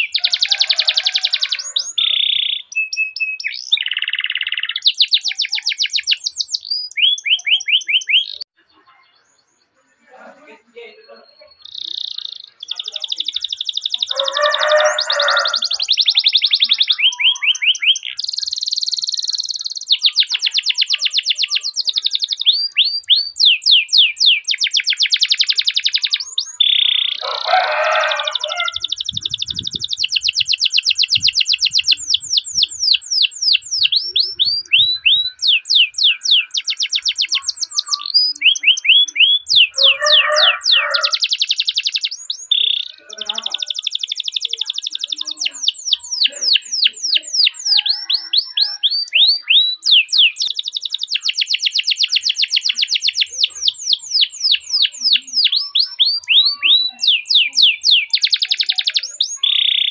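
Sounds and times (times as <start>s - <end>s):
canary trilling: 0.0s - 9.2s, 10.8s - 59.9s.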